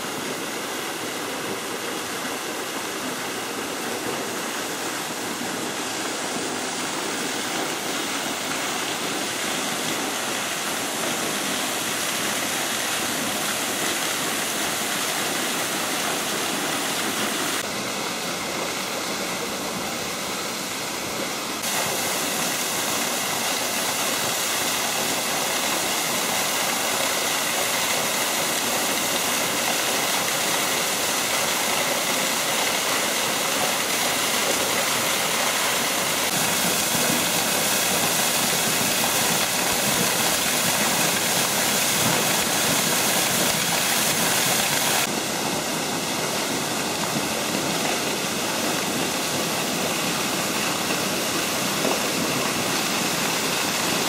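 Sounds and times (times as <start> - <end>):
waterfall pouring into pool: 0.0 - 54.0.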